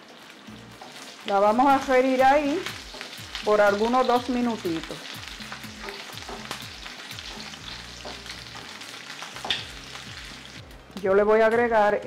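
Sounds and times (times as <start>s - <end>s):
sausage sizzling in hot oil: 0.0s - 11.1s.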